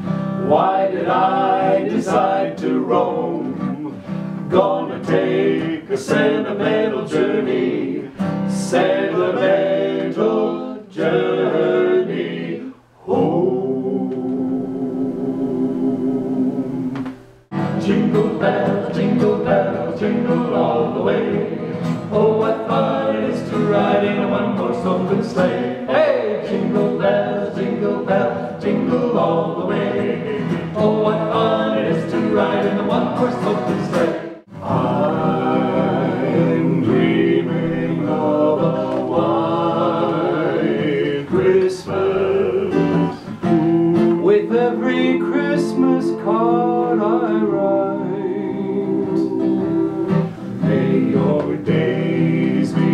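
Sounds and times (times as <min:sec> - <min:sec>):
acoustic guitar: 0:00.0 - 0:52.9
men singing in harmony: 0:00.4 - 0:52.9.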